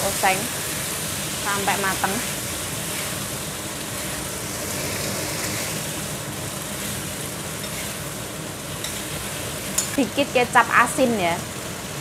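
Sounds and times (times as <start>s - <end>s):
prawns sizzling in a wok: 0.0s - 12.0s.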